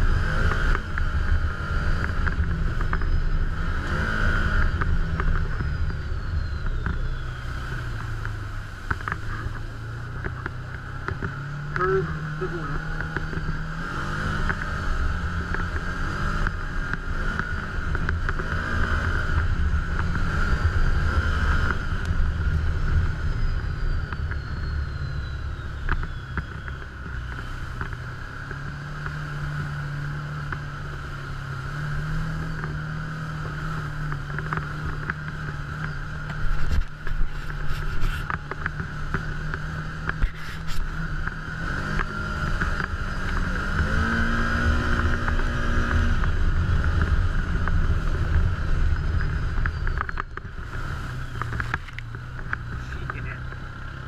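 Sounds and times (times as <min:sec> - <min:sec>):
constant high whine: 0:00.0 - 0:54.0
utility vehicle engine running: 0:00.0 - 0:54.0.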